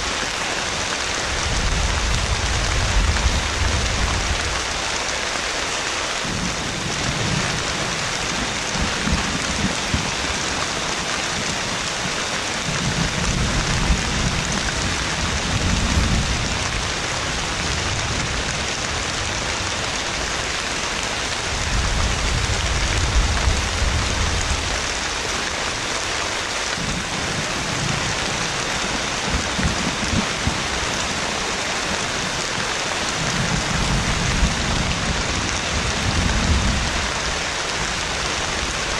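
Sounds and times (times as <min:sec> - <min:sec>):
heavy rain falling: 0:00.0 - 0:38.9
thunder rumbling: 0:00.6 - 0:04.8, 0:06.2 - 0:25.9, 0:26.7 - 0:38.9.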